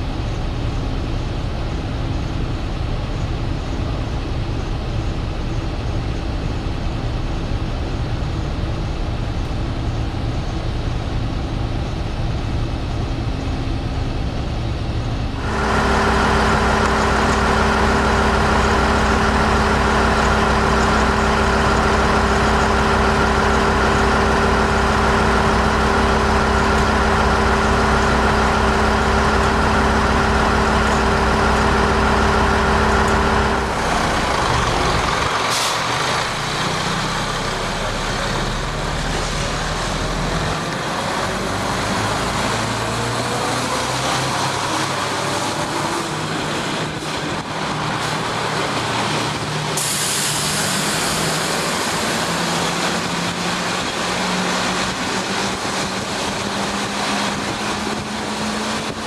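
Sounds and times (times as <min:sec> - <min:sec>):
diesel railcar engine droning: 0:00.0 - 0:59.0
low rumble inside railcar: 0:00.0 - 0:59.0.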